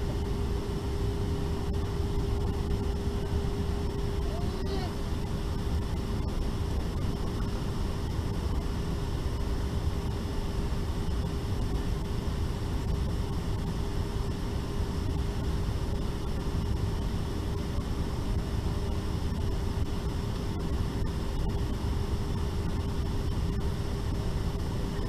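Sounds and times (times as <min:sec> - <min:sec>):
cabin ventilation rush: 0:00.0 - 0:25.0
steady hum: 0:00.0 - 0:25.0.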